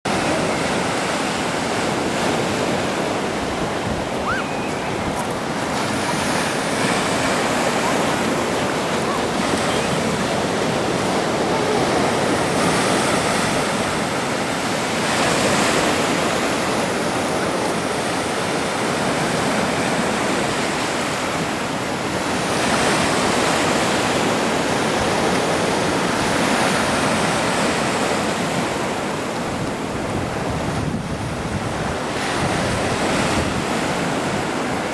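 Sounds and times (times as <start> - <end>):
waves breaking on shore: 0.1 - 34.9.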